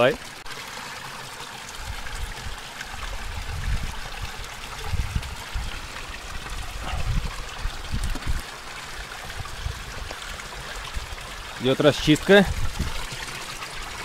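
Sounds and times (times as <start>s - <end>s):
spring water trickling: 0.0s - 14.0s.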